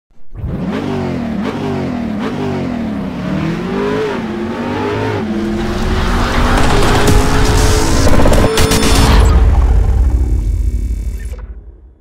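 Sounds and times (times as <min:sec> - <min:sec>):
car engine accelerating: 0:00.3 - 0:11.6.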